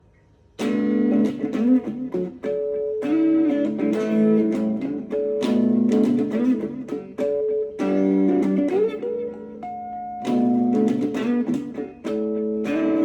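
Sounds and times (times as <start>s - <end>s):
plucked guitar melody: 0.5s - 13.0s.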